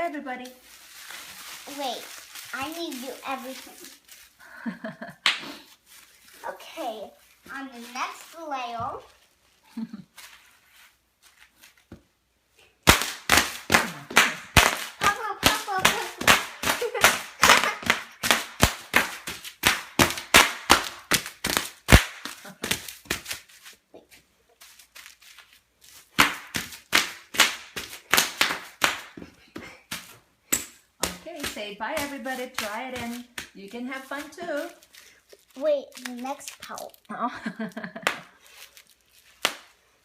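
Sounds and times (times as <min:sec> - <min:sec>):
bubble wrap popping: 0:00.4 - 0:04.5, 0:05.2 - 0:12.1, 0:12.8 - 0:29.3, 0:29.9 - 0:40.0.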